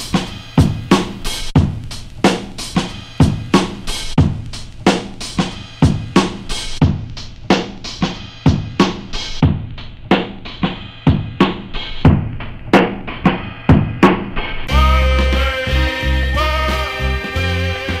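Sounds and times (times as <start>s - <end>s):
drum loop with kick snare hi-hats: 0.0s - 18.0s.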